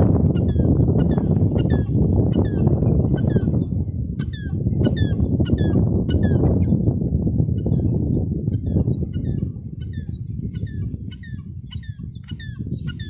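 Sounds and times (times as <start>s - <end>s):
low rumble: 0.0s - 12.2s.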